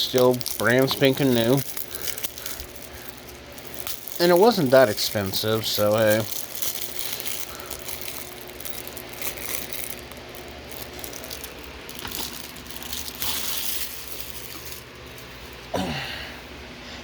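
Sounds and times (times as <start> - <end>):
plastic case rustling and clicking: 0.0 - 14.8.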